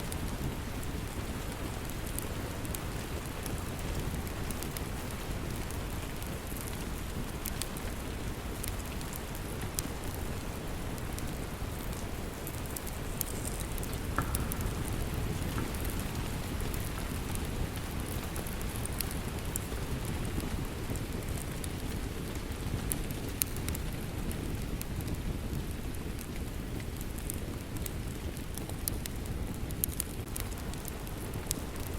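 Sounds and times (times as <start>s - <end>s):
steady rain: 0.0s - 31.9s
wood fire crackling: 0.0s - 31.9s.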